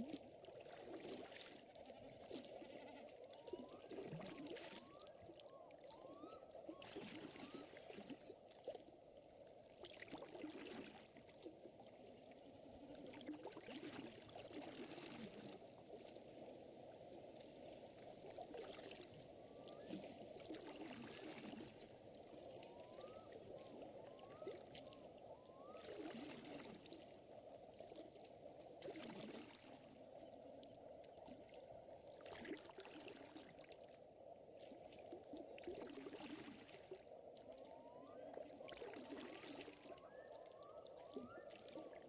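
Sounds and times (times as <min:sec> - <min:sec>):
water lapping and trickling: 0:00.0 - 0:42.0.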